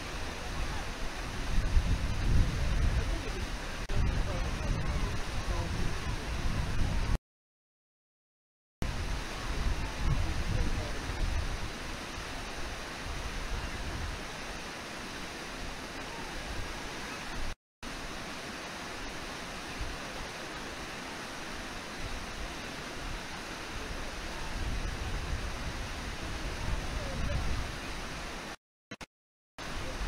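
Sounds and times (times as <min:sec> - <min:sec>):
waterfall and river rapids: 0:00.0 - 0:07.2, 0:08.8 - 0:28.6, 0:29.6 - 0:30.0.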